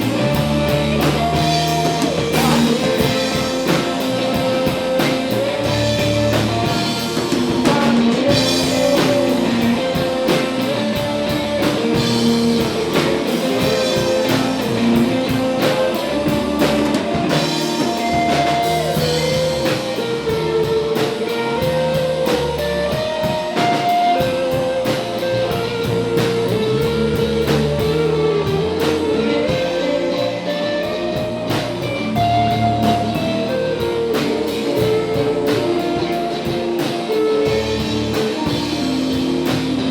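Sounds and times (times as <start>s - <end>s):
drum kit steady beat: 0.0s - 39.9s
guitar melody: 0.0s - 39.9s
low bass notes: 0.0s - 39.9s.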